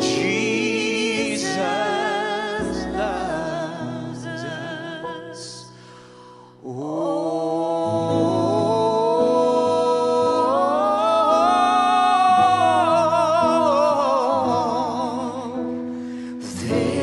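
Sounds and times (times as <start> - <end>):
gospel duet singing with vibrato: 0.0 - 17.0.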